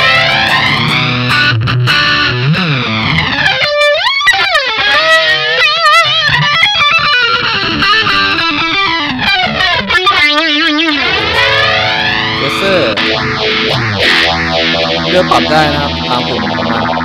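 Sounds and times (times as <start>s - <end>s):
electric guitar with flanger: 0.0s - 17.0s.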